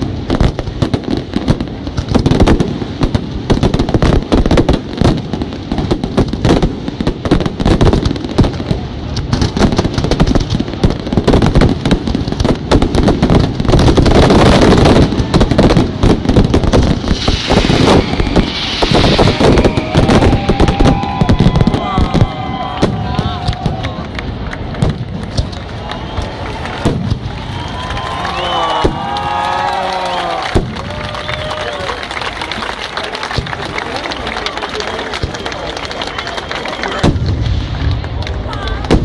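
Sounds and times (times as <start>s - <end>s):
fireworks bangs: 0.0s - 39.0s
fireworks hissing crackle: 0.0s - 39.0s.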